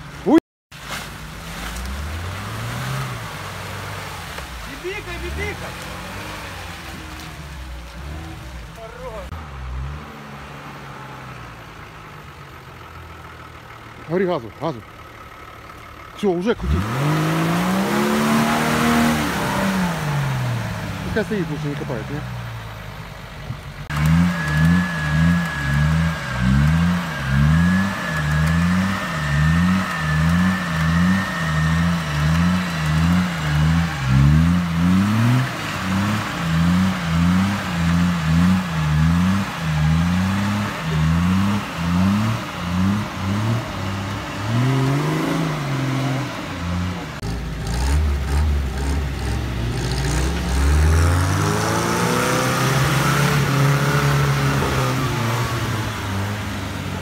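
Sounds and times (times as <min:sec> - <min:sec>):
engine revving through mud: 0:00.0 - 0:57.0
truck engine revving in surges: 0:00.0 - 0:57.0.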